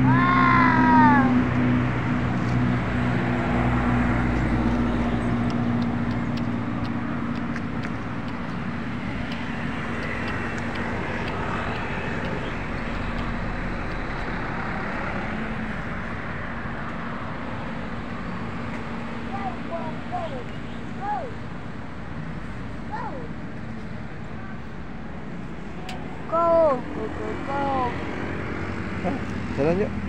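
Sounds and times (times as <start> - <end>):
low engine hum: 0.0 - 30.0
road traffic noise: 0.0 - 30.0.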